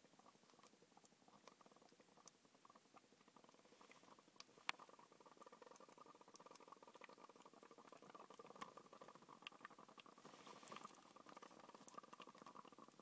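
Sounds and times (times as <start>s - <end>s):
small ticks and pops: 0.0s - 13.0s
bong bubbling: 0.2s - 13.0s.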